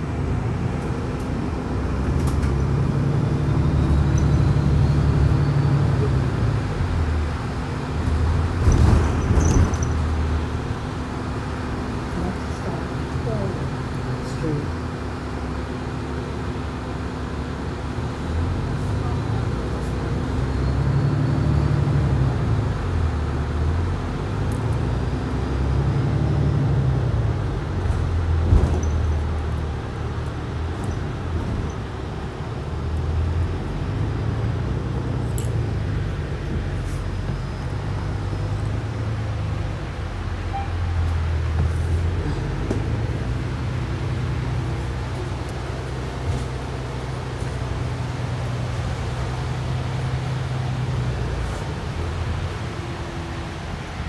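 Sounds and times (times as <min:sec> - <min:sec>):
bus droning: 0:00.0 - 0:54.0
road noise: 0:00.0 - 0:54.0.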